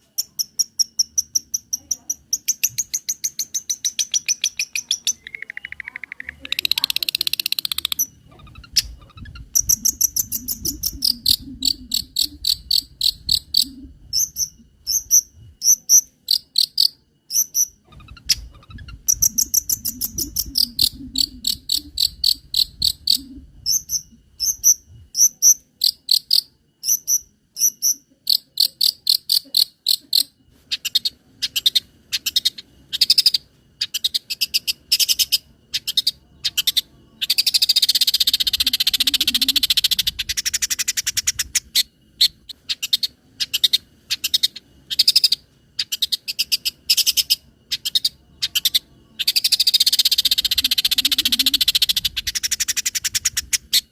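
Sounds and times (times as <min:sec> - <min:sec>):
bird chirping like a cricket: 0:00.0 - 0:53.9.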